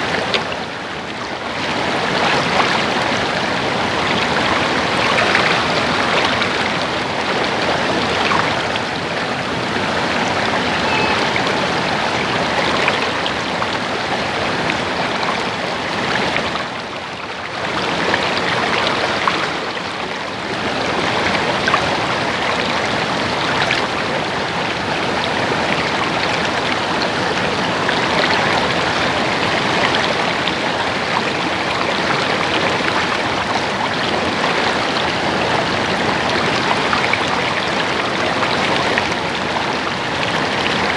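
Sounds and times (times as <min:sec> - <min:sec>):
water babbling over rocks: 0:00.0 - 0:40.9.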